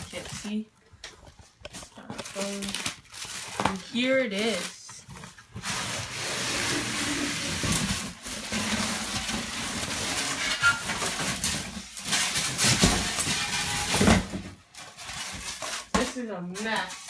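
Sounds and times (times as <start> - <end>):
packaging rustling and scraping: 0.0 - 17.0.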